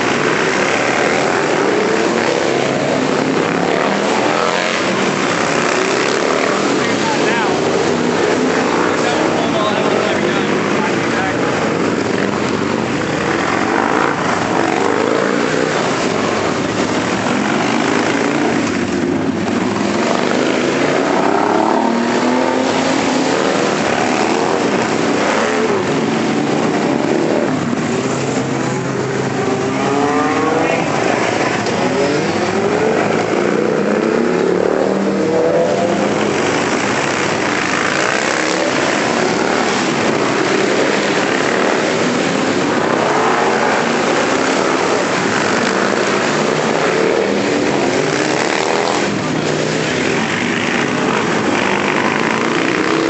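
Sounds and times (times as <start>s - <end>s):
motorcycles riding past: 0.0s - 53.0s.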